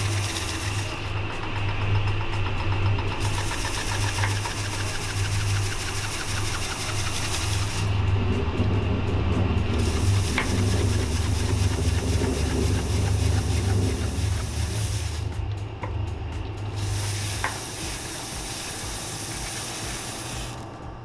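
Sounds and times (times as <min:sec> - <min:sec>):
light regular ticking: 0:00.0 - 0:20.9
centrifuge mechanical hum: 0:00.0 - 0:21.0.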